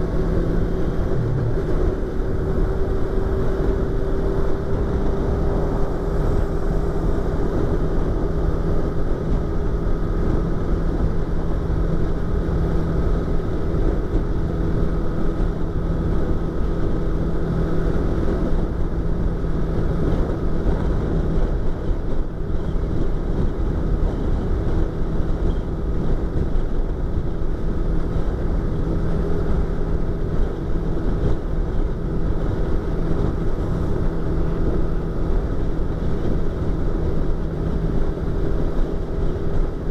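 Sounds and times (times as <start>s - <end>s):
motorcycle engine cruising: 0.0s - 39.9s
wind noise in helmet: 0.0s - 39.9s.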